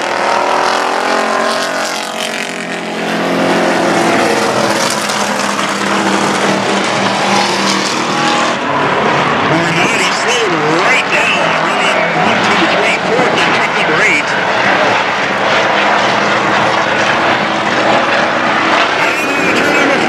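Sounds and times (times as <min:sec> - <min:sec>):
truck engines running hard: 0:00.0 - 0:20.0.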